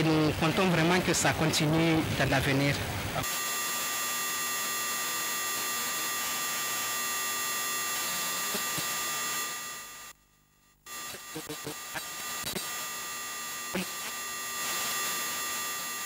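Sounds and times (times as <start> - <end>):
electronic hiss: 0.0 - 10.2, 10.8 - 16.0
faint high whine tones: 0.0 - 16.0.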